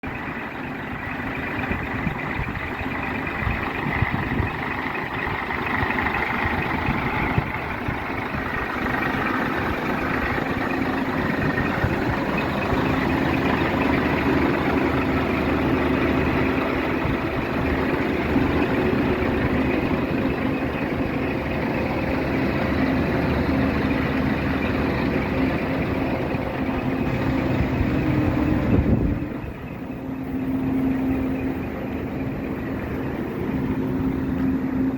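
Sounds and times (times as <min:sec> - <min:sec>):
truck diesel engine idling: 0:00.0 - 0:34.9.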